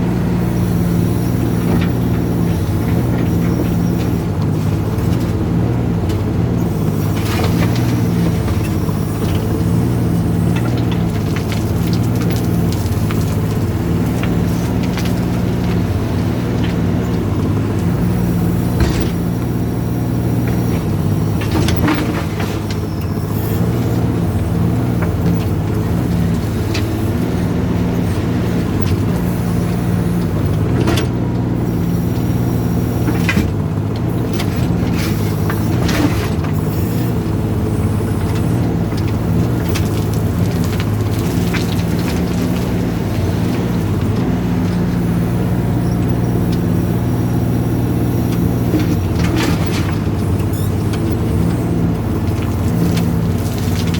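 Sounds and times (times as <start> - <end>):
mini excavator diesel engine running: 0.0 - 53.9.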